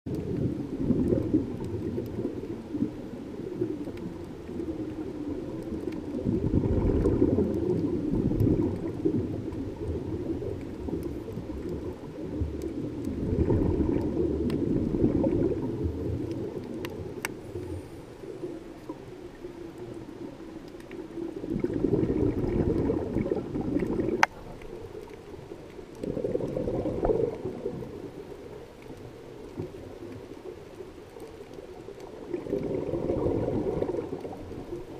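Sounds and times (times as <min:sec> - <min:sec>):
breath bubbling underwater: 0:00.1 - 0:19.4, 0:21.0 - 0:24.5, 0:25.8 - 0:28.4, 0:32.0 - 0:34.9
low rush of water: 0:00.1 - 0:34.9.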